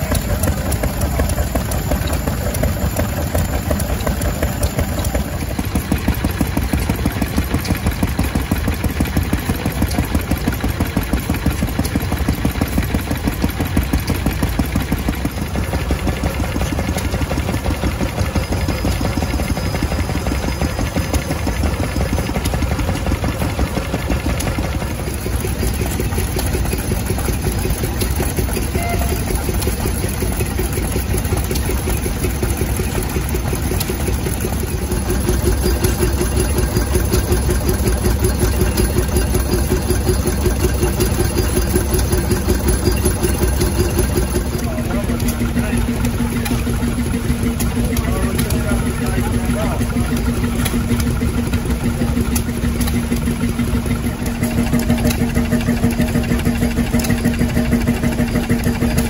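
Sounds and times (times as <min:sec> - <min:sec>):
stationary engine running: 0:00.0 - 0:59.0.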